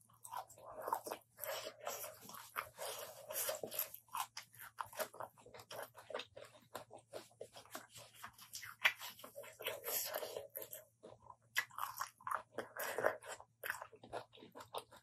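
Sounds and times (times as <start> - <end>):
wet crunchy chewing: 0.0 - 15.0.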